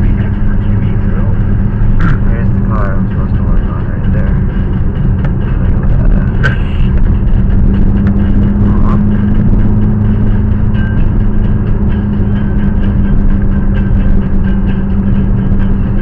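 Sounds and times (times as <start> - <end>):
car engine and tyre drone: 0.0 - 16.0.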